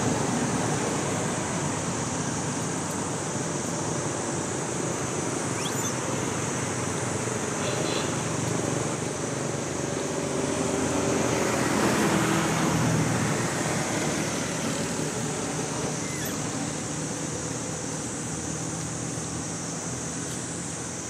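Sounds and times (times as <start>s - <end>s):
constant high hiss: 0.0s - 21.0s.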